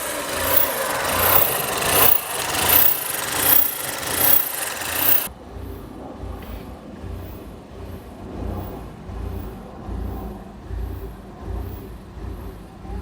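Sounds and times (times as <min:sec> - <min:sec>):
car engine rhythmic rasping: 0:00.0 - 0:13.0.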